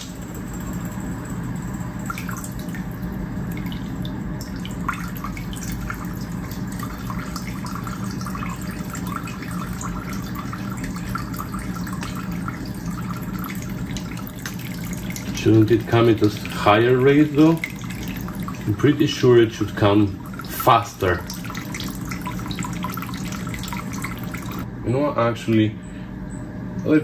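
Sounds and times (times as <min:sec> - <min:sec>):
electric fuel pump humming: 0:00.0 - 0:24.7
liquid trickling into plastic bucket: 0:02.0 - 0:19.1, 0:19.7 - 0:24.6.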